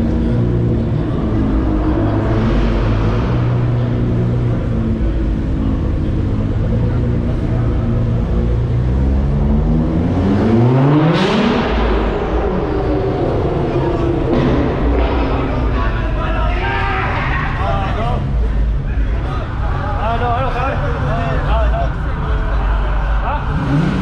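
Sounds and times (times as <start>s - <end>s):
car engine revving: 0.0s - 24.0s
car engines idling: 0.0s - 24.0s.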